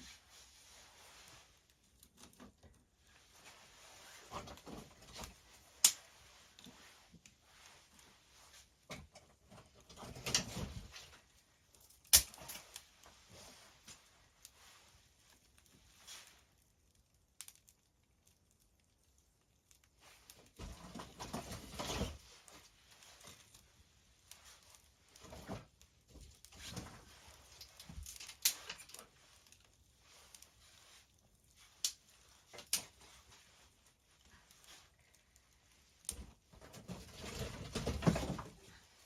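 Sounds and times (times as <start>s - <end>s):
rustling and crinkling: 0.0s - 39.0s.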